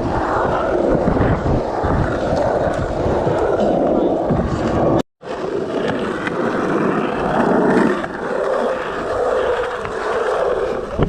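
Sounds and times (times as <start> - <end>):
skateboard wheels rolling: 0.0 - 11.0.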